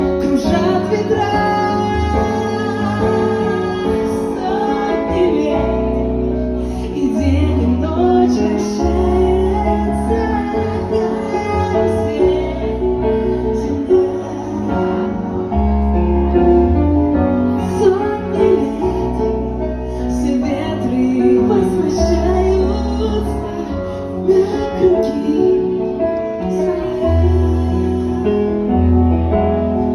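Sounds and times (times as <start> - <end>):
woman singing: 0.0 - 15.9, 17.5 - 29.9
steady bass line: 0.0 - 29.9.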